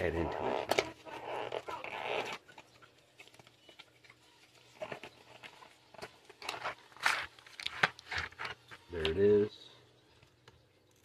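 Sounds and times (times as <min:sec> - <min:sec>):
packaging crinkling and rustling: 0:00.2 - 0:09.1.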